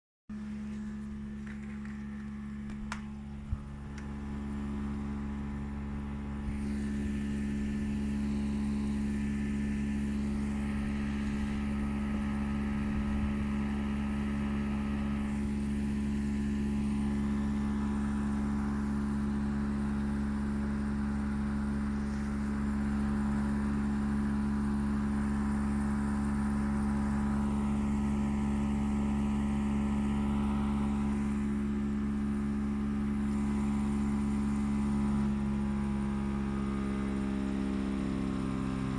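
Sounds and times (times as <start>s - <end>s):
air conditioner droning: 0.3s - 38.9s.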